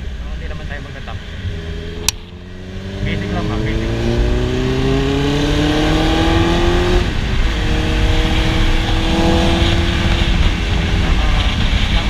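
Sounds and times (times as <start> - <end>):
motorcycle engine revving: 0.0 - 12.0
wind rushing over microphone: 0.0 - 12.0.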